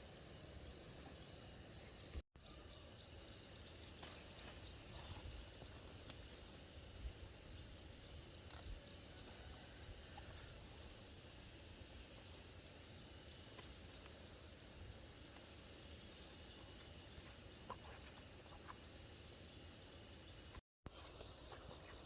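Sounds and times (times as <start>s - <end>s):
insects chirring: 0.0s - 22.0s
outdoor background noise: 0.0s - 22.0s.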